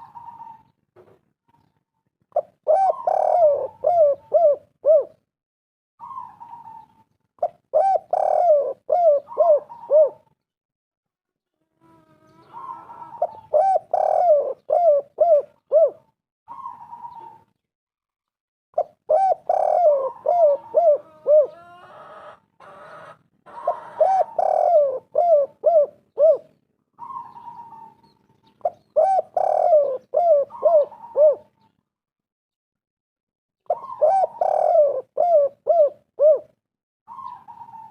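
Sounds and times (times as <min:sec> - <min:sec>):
dove cooing: 0:00.0 - 0:00.8, 0:02.3 - 0:05.2, 0:06.0 - 0:10.4, 0:11.8 - 0:17.5, 0:18.8 - 0:31.7, 0:33.7 - 0:37.9.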